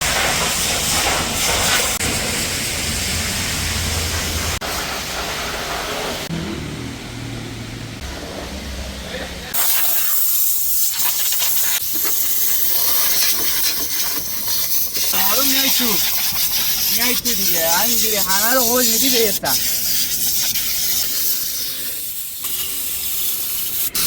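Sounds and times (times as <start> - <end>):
water spray hissing against car: 0.0 - 6.3, 9.5 - 24.0.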